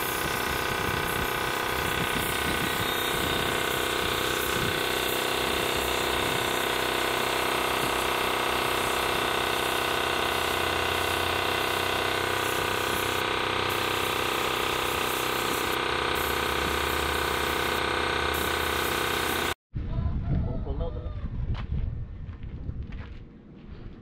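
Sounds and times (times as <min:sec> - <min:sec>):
compressor drone: 0:00.0 - 0:19.6
spray gun hissing: 0:00.0 - 0:19.6.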